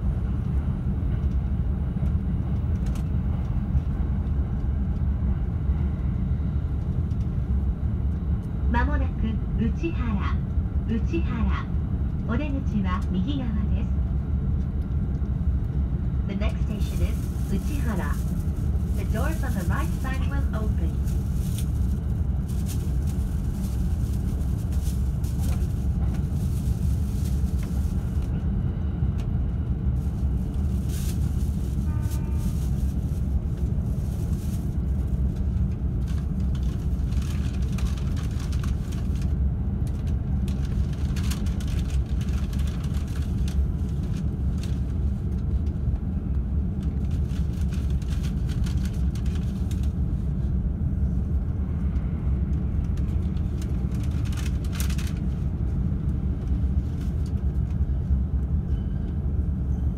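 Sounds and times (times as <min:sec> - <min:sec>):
electric train rumbling on rails: 0:00.0 - 0:59.9.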